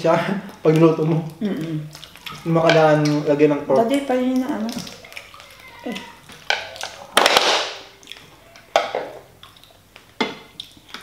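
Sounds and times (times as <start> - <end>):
eating cracks and crunches: 0.5 - 3.2, 4.4 - 11.0.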